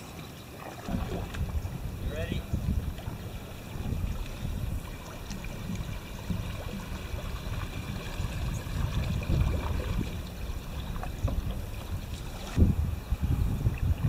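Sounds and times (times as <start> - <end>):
wind buffeting microphone: 0.8 - 14.0.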